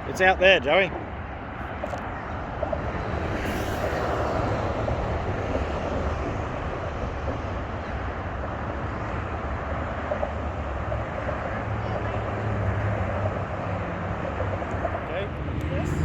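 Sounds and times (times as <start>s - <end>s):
noisy outdoor rumble: 0.0s - 16.0s.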